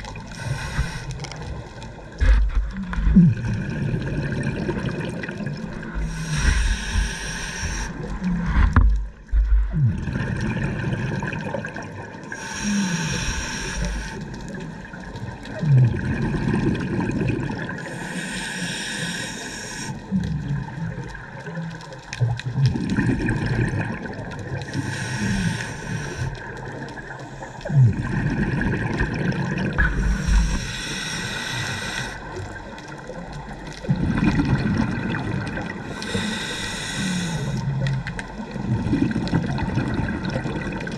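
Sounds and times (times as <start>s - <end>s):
exhaled air bubbling underwater: 0.0s - 40.9s.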